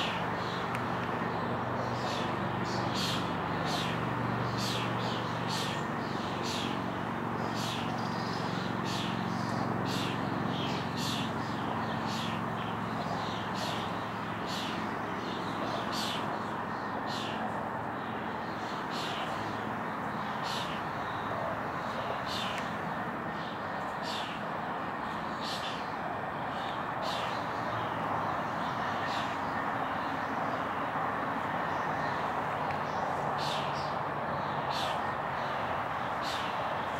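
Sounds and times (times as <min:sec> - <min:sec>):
distant city traffic hum: 0:00.0 - 0:36.9.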